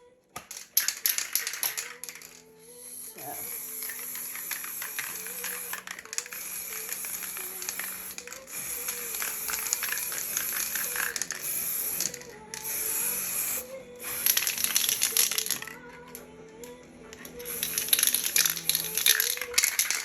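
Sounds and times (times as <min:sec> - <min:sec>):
background music: 0:00.0 - 0:20.0
spray paint can hissing: 0:00.4 - 0:15.8, 0:17.2 - 0:20.0.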